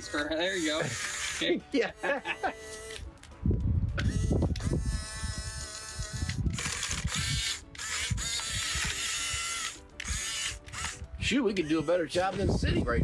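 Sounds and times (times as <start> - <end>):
toy bulldozer motor whining: 0.0 - 1.5, 2.3 - 3.1, 4.0 - 12.3.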